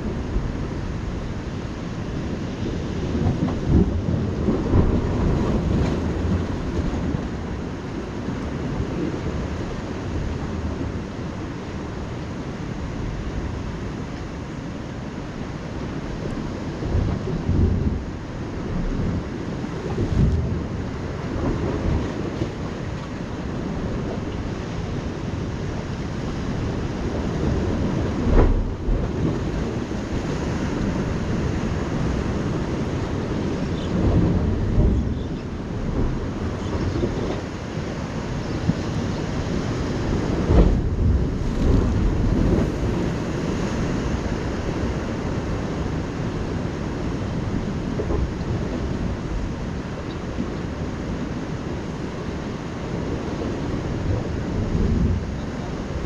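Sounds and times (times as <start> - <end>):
ocean surf on rocks: 0.0 - 56.0
wind on microphone: 0.0 - 56.0.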